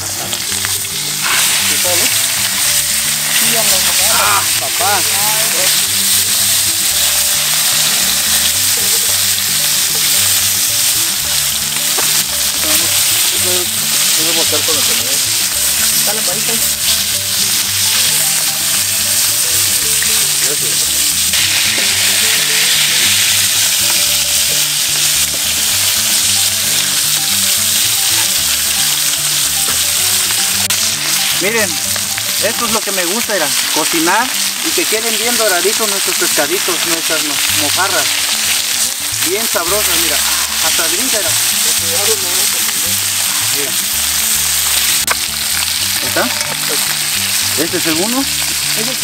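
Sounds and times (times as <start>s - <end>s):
background music: 0.0s - 49.0s
fish sizzling in hot oil: 0.0s - 49.0s.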